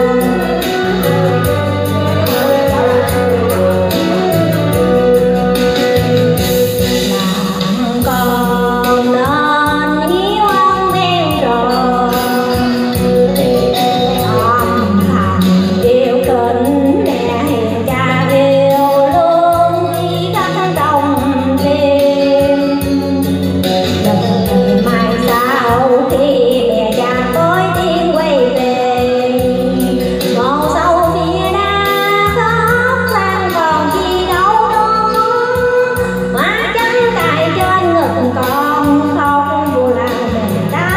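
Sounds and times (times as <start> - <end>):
backing music with steady beat: 0.0 - 40.9
woman singing into microphone: 0.0 - 40.9.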